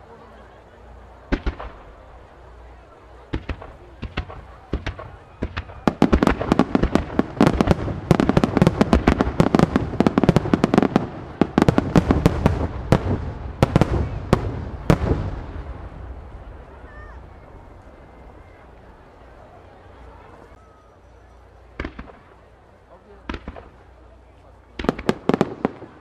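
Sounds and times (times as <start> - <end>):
fireworks bursting: 0.8 - 20.5, 21.7 - 26.0.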